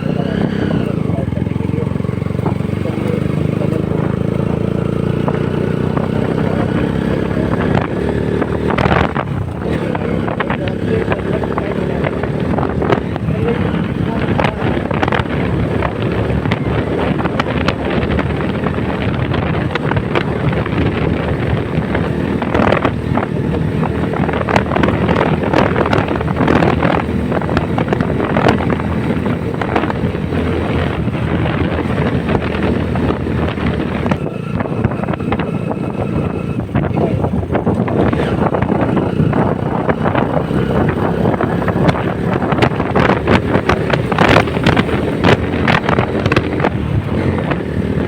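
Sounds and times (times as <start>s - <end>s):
motorcycle engine: 0.0s - 48.0s
road noise: 0.0s - 48.0s
wind buffeting microphone: 0.0s - 48.0s.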